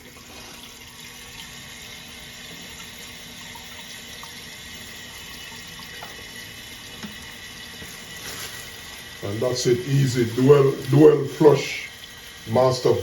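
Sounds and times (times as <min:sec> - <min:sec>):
water filling toilet tank: 0:00.0 - 0:13.0.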